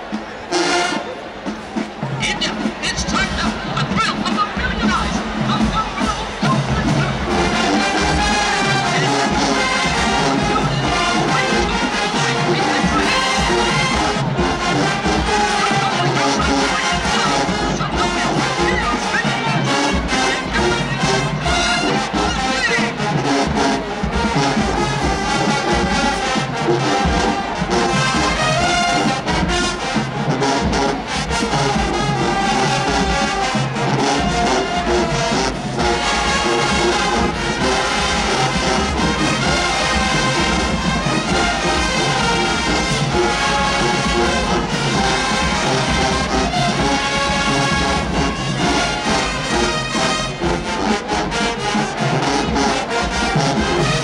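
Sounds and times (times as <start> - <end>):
driving drum beat: 0.0 - 54.0
marching band brass: 0.0 - 54.0.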